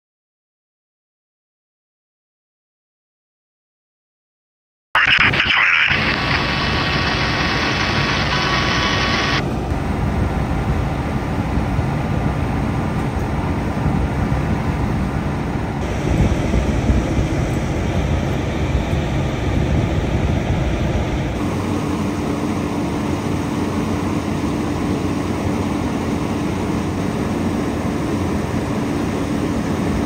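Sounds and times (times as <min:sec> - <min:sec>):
diesel engines rumbling: 0:05.0 - 0:30.0.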